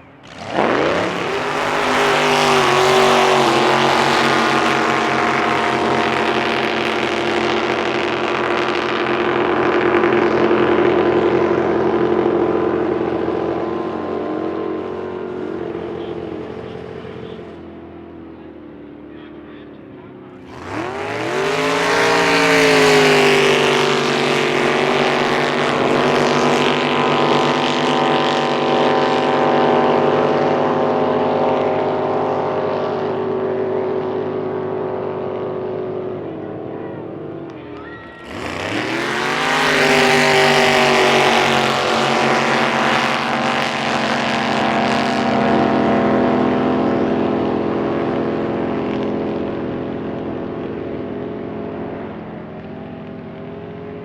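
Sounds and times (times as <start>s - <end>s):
boat engine revving: 0.0s - 54.0s.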